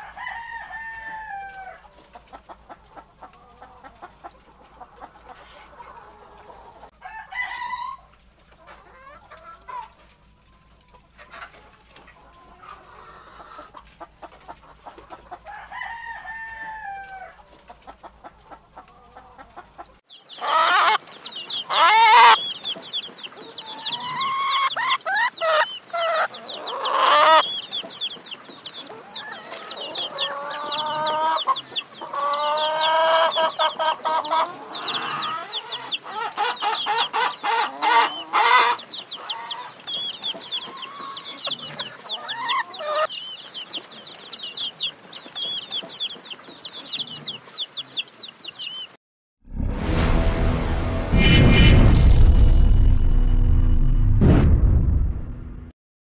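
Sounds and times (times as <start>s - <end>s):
hens clucking: 0.0s - 49.0s
chicks peeping: 0.2s - 6.9s, 7.6s - 49.0s.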